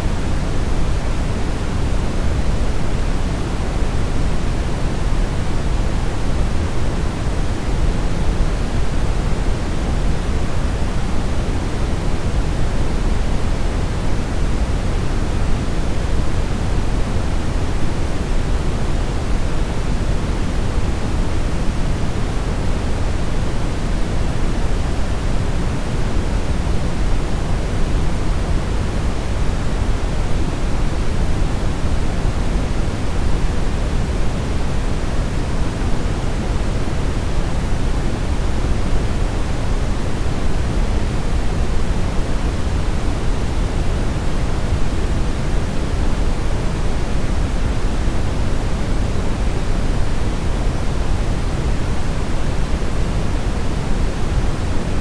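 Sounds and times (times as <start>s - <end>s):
steady brown noise: 0.0s - 55.0s.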